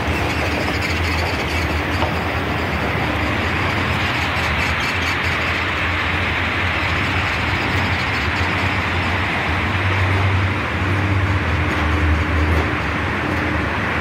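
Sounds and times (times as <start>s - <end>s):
escalator mechanical hum: 0.0s - 14.0s.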